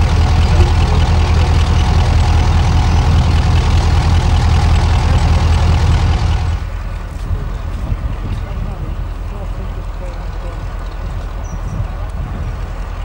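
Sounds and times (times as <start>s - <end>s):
diesel locomotive engines idling: 0.0s - 13.0s.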